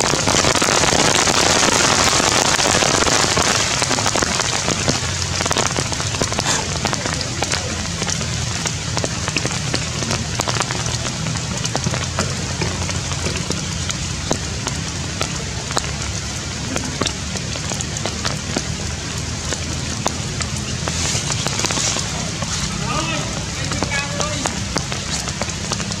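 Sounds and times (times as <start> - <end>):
rain falling on foliage: 0.0 - 26.0.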